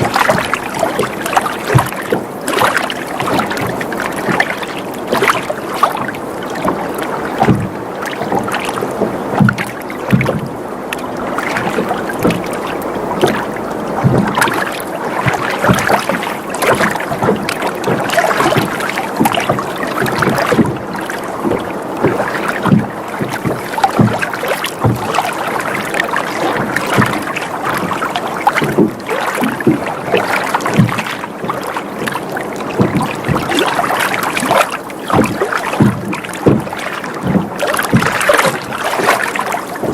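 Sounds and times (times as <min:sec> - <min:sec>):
water lapping against boat hull: 0:00.0 - 0:39.9.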